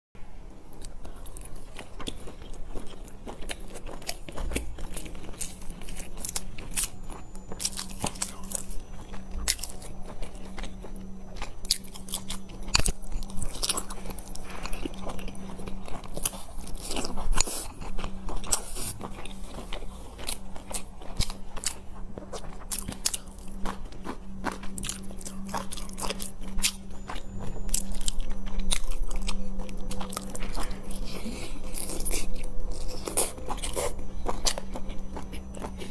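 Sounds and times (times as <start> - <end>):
steady low hum: 0.2 - 35.9
biting and chewing buns: 0.5 - 35.9.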